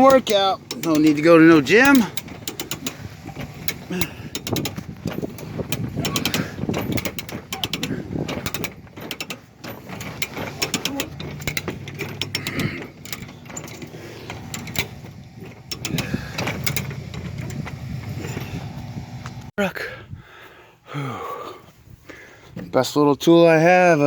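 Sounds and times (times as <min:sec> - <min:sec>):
hand winch ratcheting clicks: 0:00.0 - 0:19.5.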